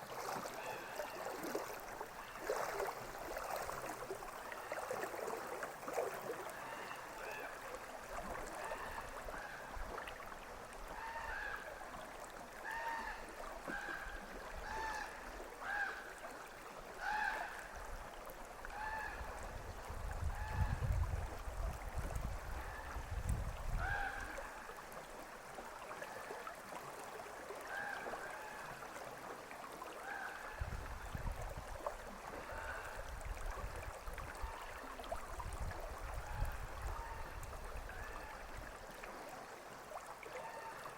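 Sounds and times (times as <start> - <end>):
river flowing: 0.0 - 20.0, 23.9 - 30.6, 31.6 - 40.9.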